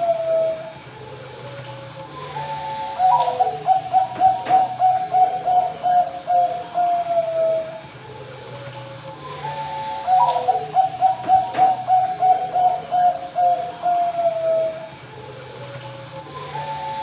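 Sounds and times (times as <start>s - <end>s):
dove cooing: 0.0s - 0.8s, 2.1s - 17.0s
steady low hum: 0.0s - 17.0s.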